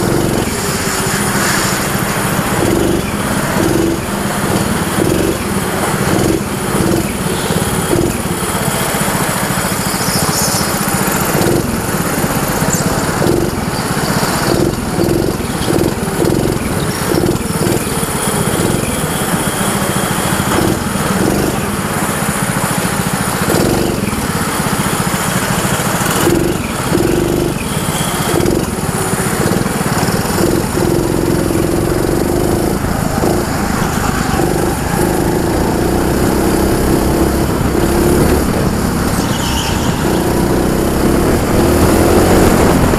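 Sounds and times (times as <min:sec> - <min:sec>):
go-kart engine running: 0:00.0 - 0:42.9.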